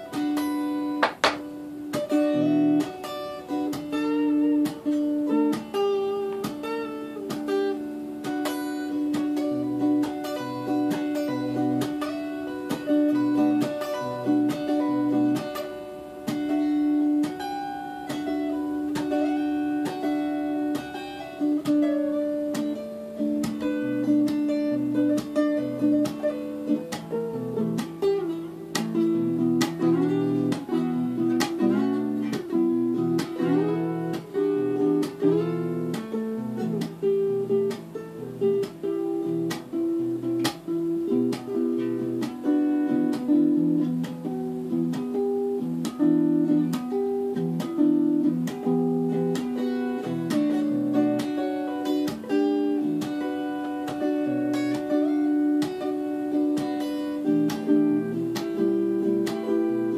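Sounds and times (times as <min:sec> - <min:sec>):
electric guitar solo: 0:00.0 - 0:59.9.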